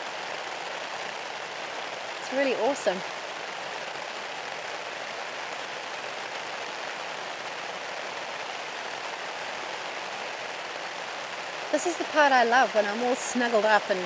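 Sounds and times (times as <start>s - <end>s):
heavy rain on a tent: 0.0s - 14.0s.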